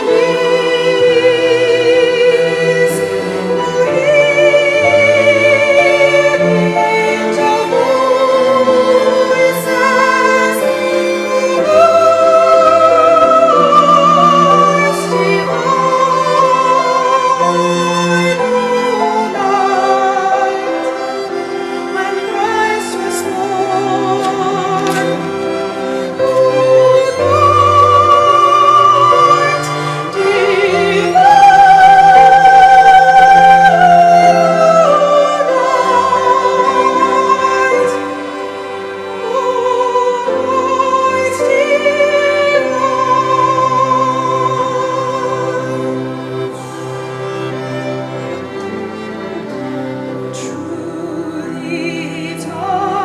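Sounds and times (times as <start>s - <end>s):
instrumental accompaniment: 0.0s - 53.0s
person singing classical style: 0.0s - 53.0s.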